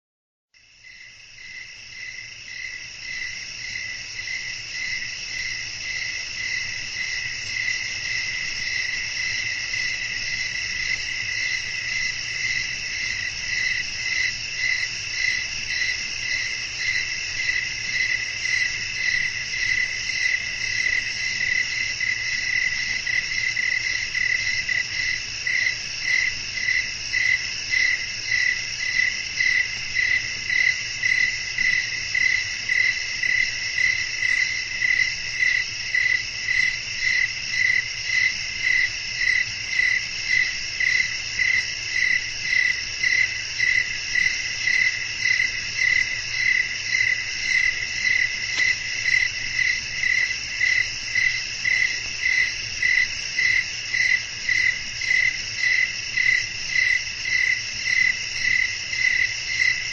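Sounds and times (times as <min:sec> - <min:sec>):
crickets chirping: 0:00.6 - 0:59.9.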